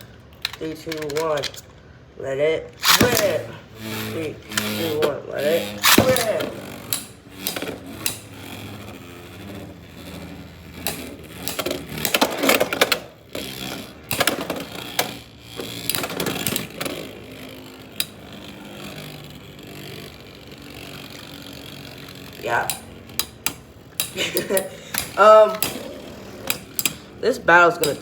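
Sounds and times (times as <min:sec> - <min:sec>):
spinning tops clashing: 0:02.8 - 0:28.0
spinning tops whirring: 0:02.8 - 0:28.0.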